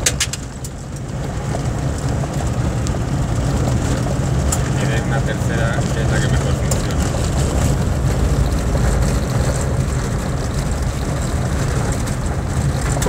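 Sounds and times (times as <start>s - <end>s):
diesel engine running: 0.0s - 13.0s
tyres rolling on gravel: 0.0s - 13.0s.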